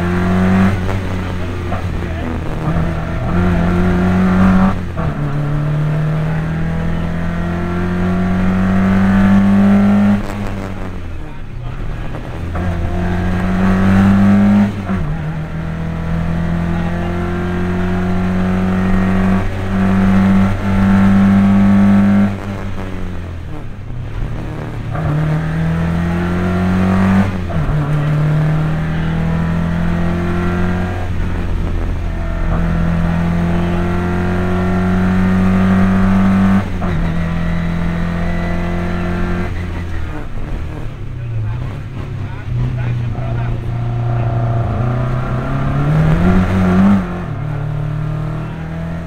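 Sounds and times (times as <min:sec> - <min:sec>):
rally car engine accelerating: 0:00.0 - 0:49.0.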